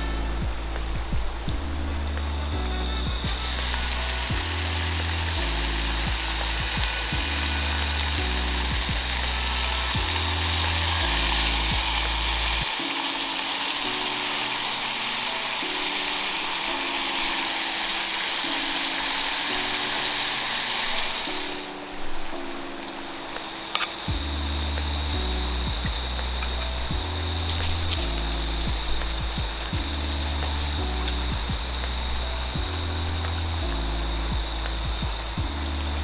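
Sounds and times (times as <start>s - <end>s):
background music of held notes: 0.0s - 36.0s
steady hiss: 0.0s - 36.0s.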